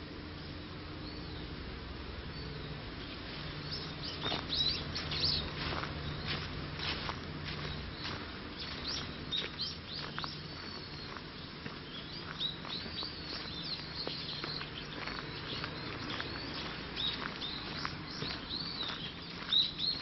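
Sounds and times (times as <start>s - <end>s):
small birds chirping: 0.3s - 20.0s
footsteps on wood chips and leaves: 3.2s - 20.0s.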